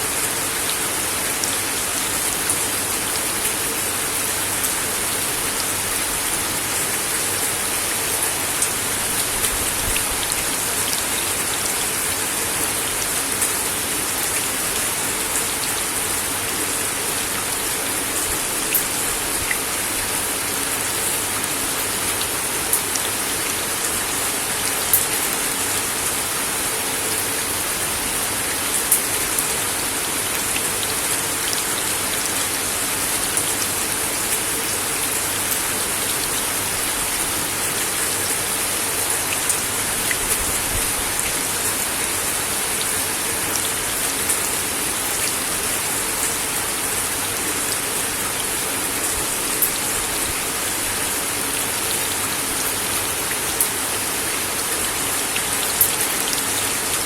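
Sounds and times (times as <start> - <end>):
rain on a wooden deck: 0.0 - 57.0.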